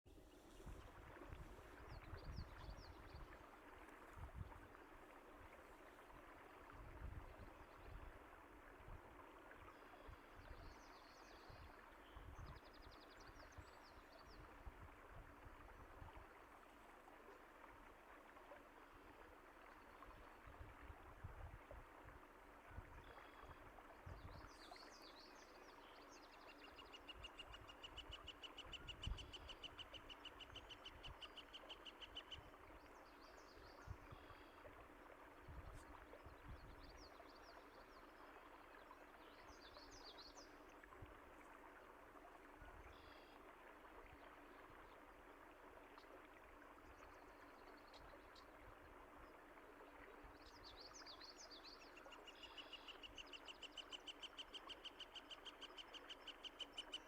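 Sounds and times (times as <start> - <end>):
stream running water: 0.1 - 57.0.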